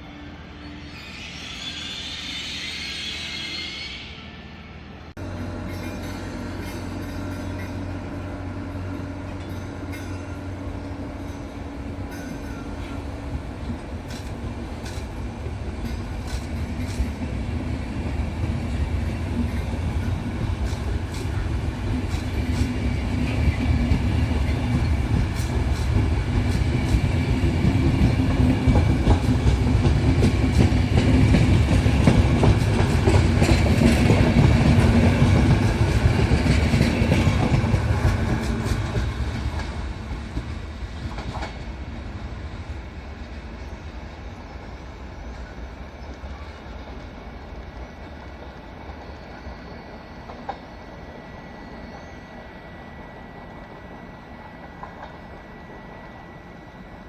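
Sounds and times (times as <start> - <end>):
train running on tracks: 0.0 - 57.0.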